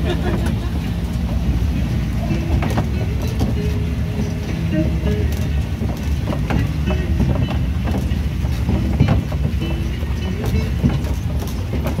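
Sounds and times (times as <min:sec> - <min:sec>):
train low rumble: 0:00.0 - 0:12.0
carriage rattles and knocks: 0:02.1 - 0:12.0.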